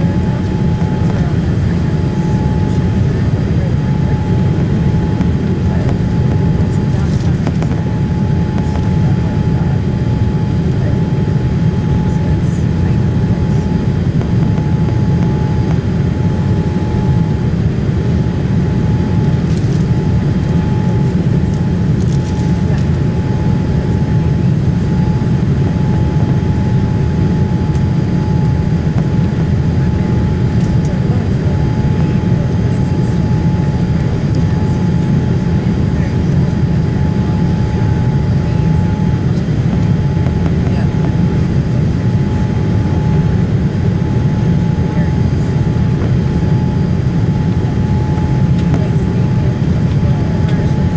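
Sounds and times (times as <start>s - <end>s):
airplane cabin airflow and engines: 0.0s - 50.9s
thin constant whine: 0.0s - 50.9s.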